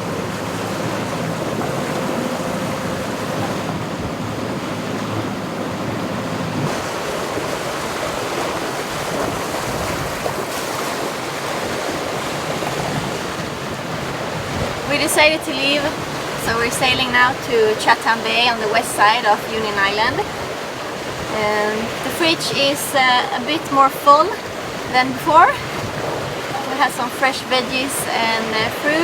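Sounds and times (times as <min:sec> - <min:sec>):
wind and water rushing: 0:00.0 - 0:29.0
wind buffeting microphone: 0:00.0 - 0:29.0.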